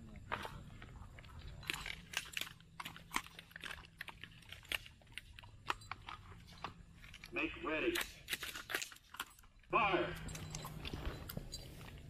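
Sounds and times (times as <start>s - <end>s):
gear and rifle handling clicks: 1.2s - 12.0s.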